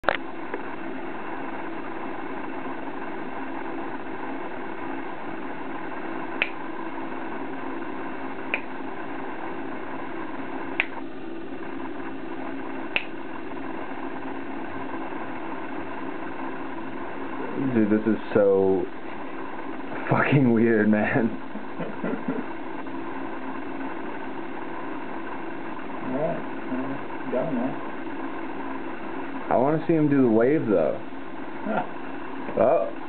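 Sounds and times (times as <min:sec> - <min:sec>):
room noise hiss: 0:00.1 - 0:33.0.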